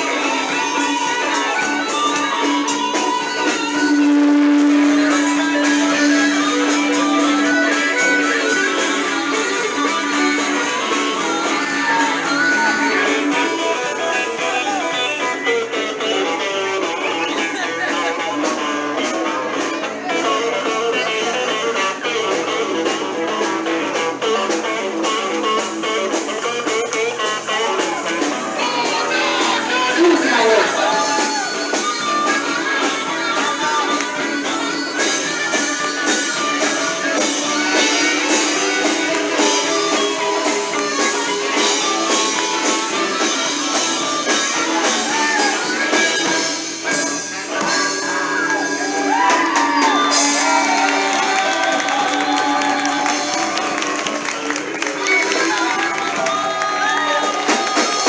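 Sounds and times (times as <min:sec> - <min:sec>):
blues-rock band playing: 0:00.0 - 0:58.0
electric guitar: 0:00.0 - 0:58.0.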